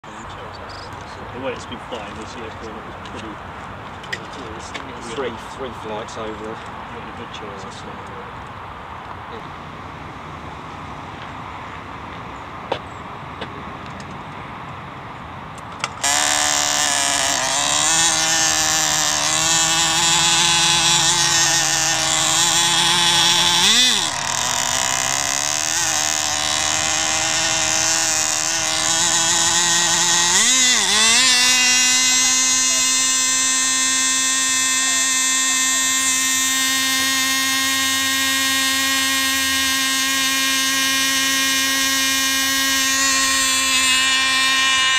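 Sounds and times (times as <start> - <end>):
model engine high-pitched whine: 0.0 - 12.9, 15.2 - 44.9.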